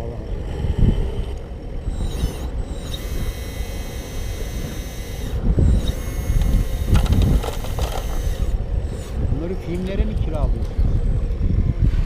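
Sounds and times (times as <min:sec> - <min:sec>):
small electric motors whining: 0:00.0 - 0:12.0
wind rumble on microphone: 0:00.0 - 0:12.0.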